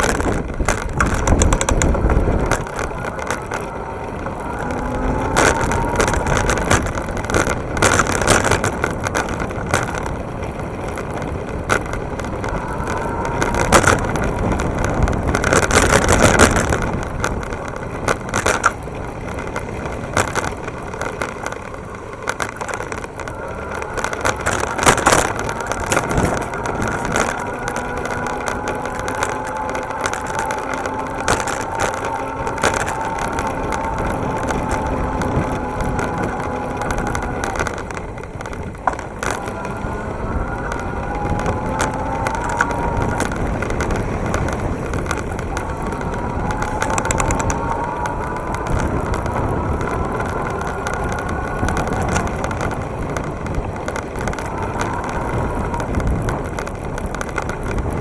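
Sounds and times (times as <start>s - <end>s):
bike knocks and rattles: 0.0s - 58.0s
road rumble: 0.0s - 58.0s
wind rush: 0.0s - 58.0s.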